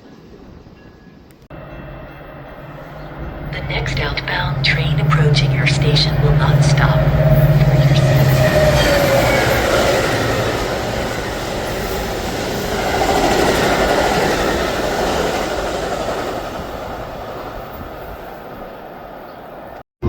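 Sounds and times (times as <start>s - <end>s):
passing train rush: 0.0s - 19.8s
train wheels clattering over rails: 1.9s - 19.4s.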